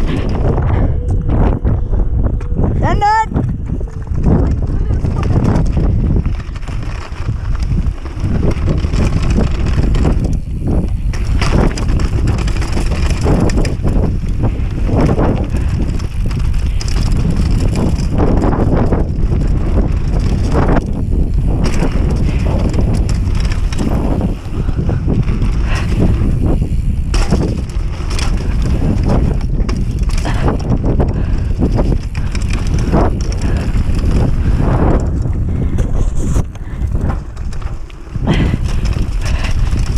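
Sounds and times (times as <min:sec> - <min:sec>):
bike knocks and rattles: 0:00.0 - 0:39.9
bike tyres rolling on gravel: 0:00.0 - 0:39.9
wind on microphone: 0:00.0 - 0:39.9.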